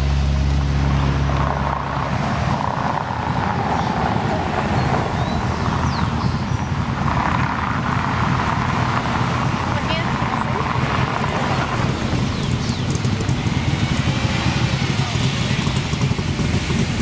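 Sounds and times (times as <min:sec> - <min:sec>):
car engine driving away: 0:00.0 - 0:17.0
car tyre and road noise: 0:00.0 - 0:17.0.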